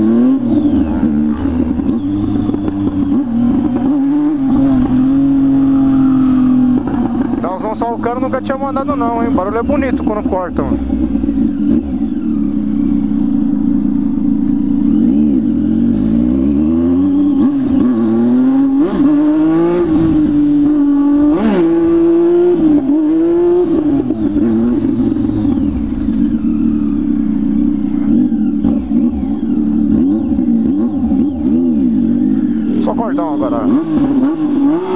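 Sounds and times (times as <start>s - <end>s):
motorcycles revving loudly: 0.0s - 34.9s.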